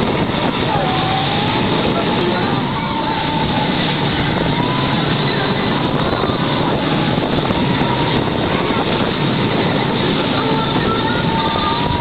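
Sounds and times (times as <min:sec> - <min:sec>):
boat engine running: 0:00.0 - 0:12.0
wake water rushing: 0:00.0 - 0:12.0
wind buffeting microphone: 0:00.0 - 0:12.0.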